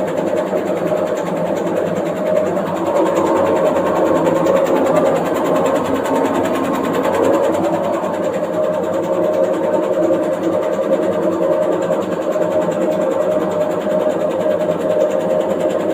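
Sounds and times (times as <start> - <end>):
washing machine vibrating and rattling: 0.0 - 15.9.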